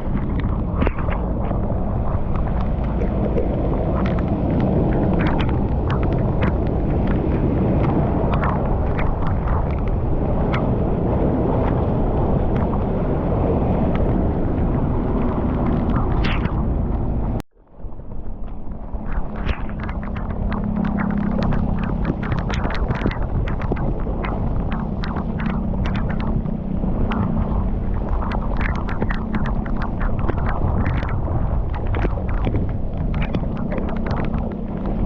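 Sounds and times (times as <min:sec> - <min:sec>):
low hum: 0:00.0 - 0:35.0
water rushing: 0:00.0 - 0:35.0.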